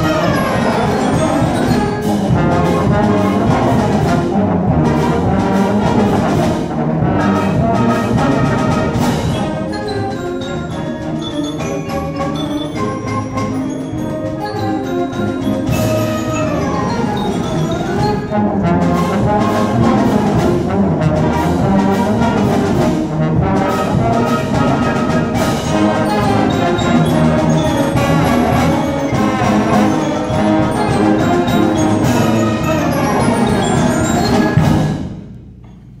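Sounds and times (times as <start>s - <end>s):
symphonic band playing a galop: 0.0s - 35.6s.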